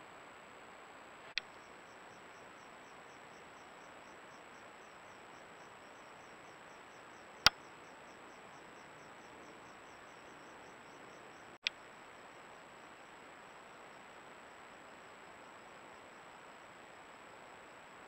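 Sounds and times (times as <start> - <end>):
faint hiss: 0.0 - 18.0
cricket chirping: 1.4 - 18.0.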